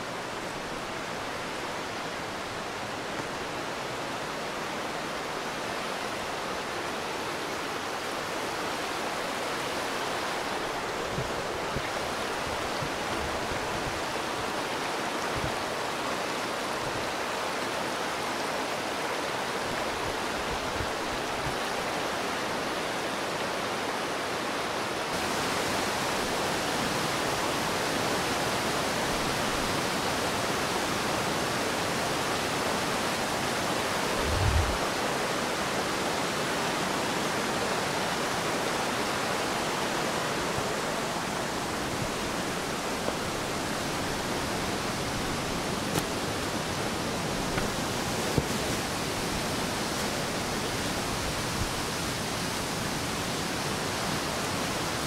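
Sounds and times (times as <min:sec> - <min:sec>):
river running fast: 0:00.0 - 0:55.0
waterfall rushing: 0:00.0 - 0:55.0.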